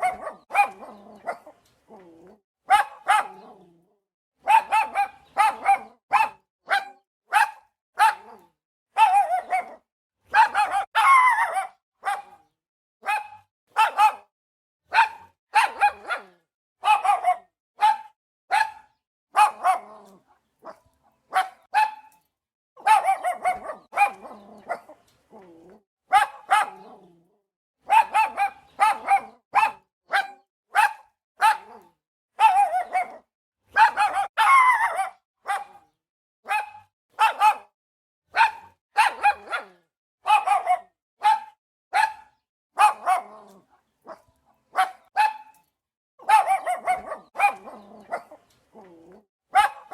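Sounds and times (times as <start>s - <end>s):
dog barking: 0.0s - 1.6s, 2.6s - 3.7s, 4.4s - 14.3s, 14.9s - 22.2s, 22.8s - 25.5s, 26.1s - 27.2s, 27.8s - 45.6s, 46.2s - 49.9s.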